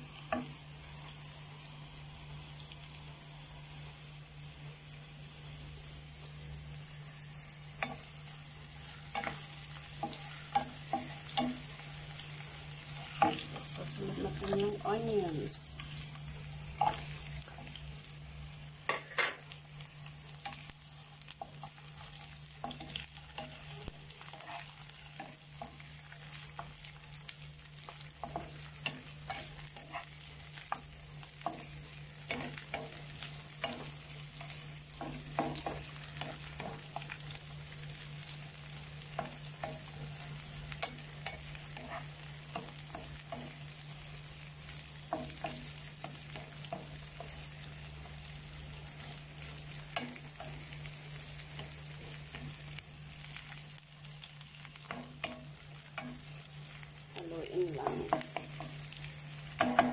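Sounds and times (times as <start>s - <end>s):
vegetables sizzling in hot oil: 0.0s - 59.9s.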